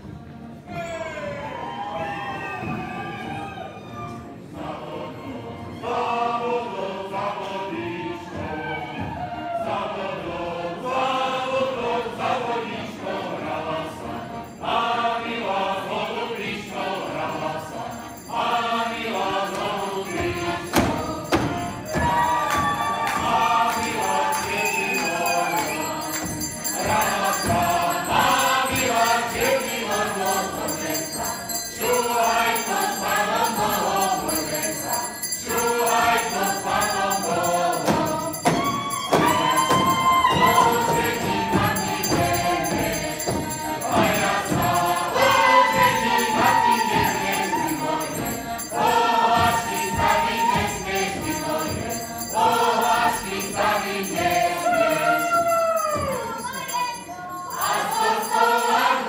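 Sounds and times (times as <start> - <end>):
group of people singing: 1.3 - 59.0.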